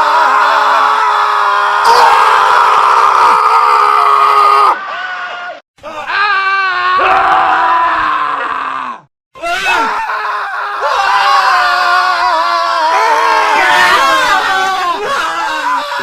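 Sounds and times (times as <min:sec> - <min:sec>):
men screaming: 0:00.0 - 0:16.0.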